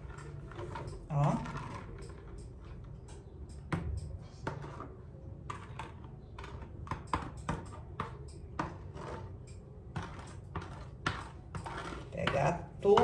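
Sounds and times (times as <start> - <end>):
spoon scraping and tapping bowl: 0.0 - 13.0.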